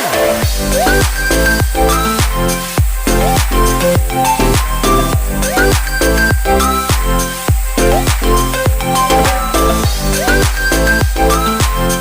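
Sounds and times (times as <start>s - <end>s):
electronic dance music: 0.0s - 12.0s
synth melody with sliding notes: 0.0s - 12.0s
kick drum beat: 0.4s - 11.9s.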